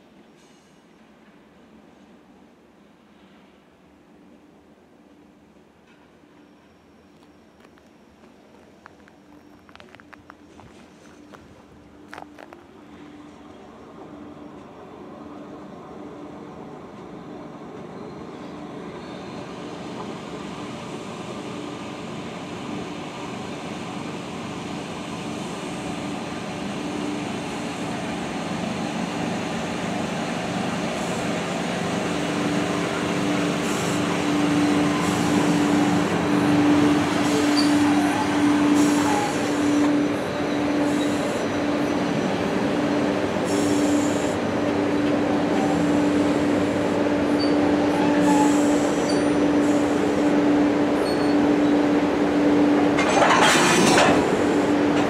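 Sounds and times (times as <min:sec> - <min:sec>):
electric locomotive hum: 0:04.6 - 0:55.0.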